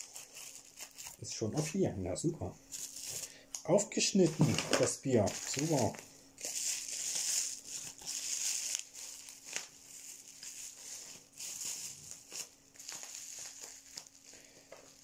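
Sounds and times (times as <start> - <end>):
packaging rustling and crinkling: 0.0 - 1.8, 2.7 - 3.4, 4.0 - 15.0.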